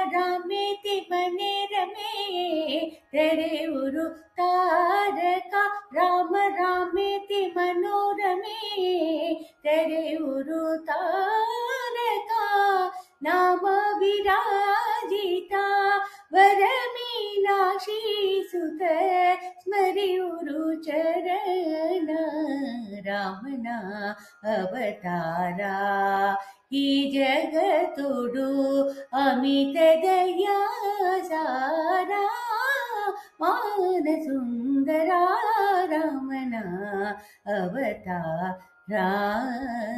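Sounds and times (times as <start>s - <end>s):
woman singing unaccompanied: 0.0s - 39.9s.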